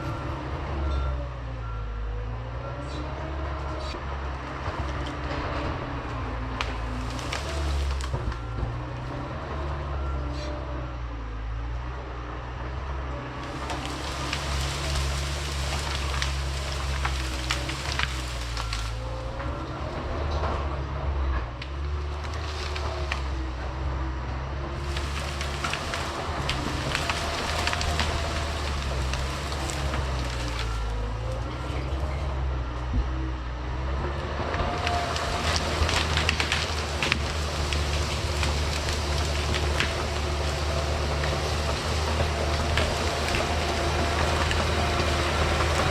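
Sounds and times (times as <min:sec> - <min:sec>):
dozer diesel engine under load: 0:00.0 - 0:45.9
branches crackling and snapping: 0:03.1 - 0:10.6, 0:13.2 - 0:20.6, 0:21.6 - 0:33.1, 0:33.7 - 0:45.9.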